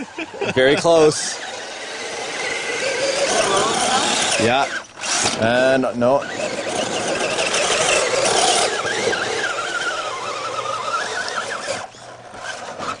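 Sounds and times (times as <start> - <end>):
rc truck electric motor whining: 0.0 - 13.0
rough scrabbling noise: 1.0 - 13.0.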